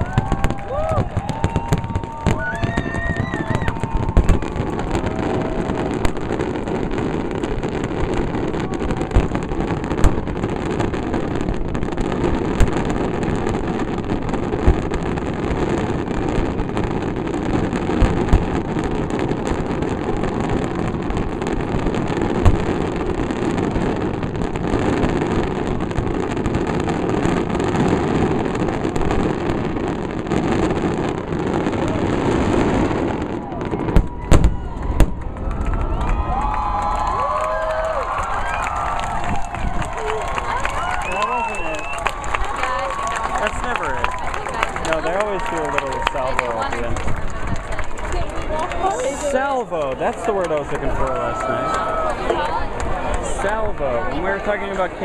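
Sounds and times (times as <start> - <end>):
fireworks bursts and crackle: 0.0 - 55.0
sharp fireworks booms: 0.0 - 55.0.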